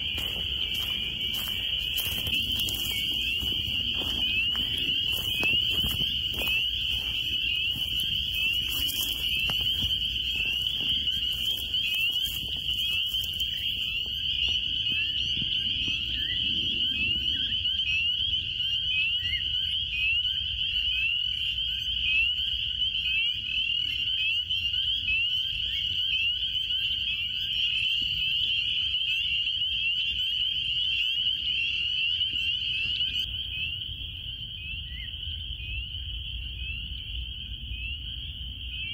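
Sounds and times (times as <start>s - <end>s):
chorus of frogs calling: 0.0s - 38.9s.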